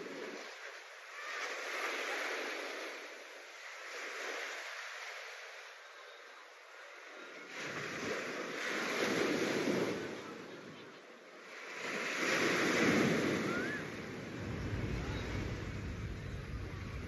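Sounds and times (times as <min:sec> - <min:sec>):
sea waves breaking on shore: 0:00.0 - 0:05.8, 0:06.9 - 0:10.7, 0:11.3 - 0:17.0.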